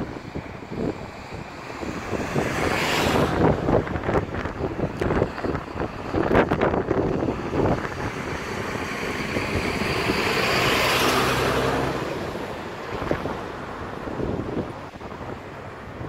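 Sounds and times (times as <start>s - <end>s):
vehicle passing: 0.6s - 16.0s.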